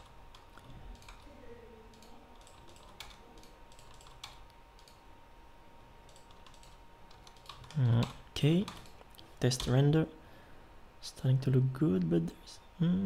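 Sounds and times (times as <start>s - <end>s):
faint high-pitched hum: 0.0s - 13.0s.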